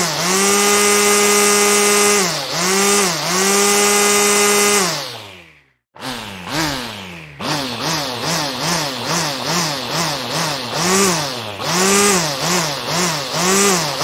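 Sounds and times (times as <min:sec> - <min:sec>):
lawn mower motor running: 0:00.0 - 0:14.0.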